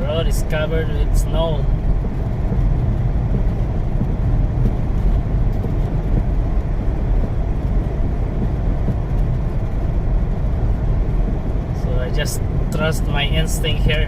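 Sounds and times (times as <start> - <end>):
car driving on snowy road: 0.0 - 14.0.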